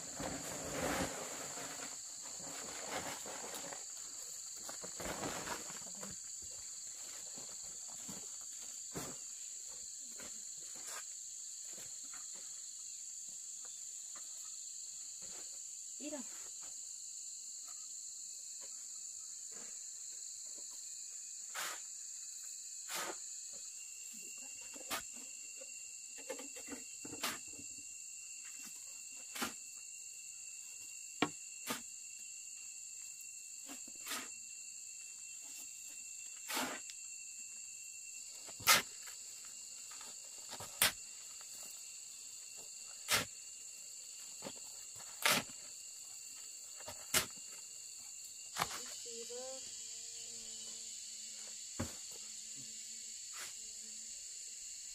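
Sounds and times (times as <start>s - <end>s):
high-pitched insect chorus: 0.0s - 54.9s
lower-pitched insect: 0.0s - 54.9s.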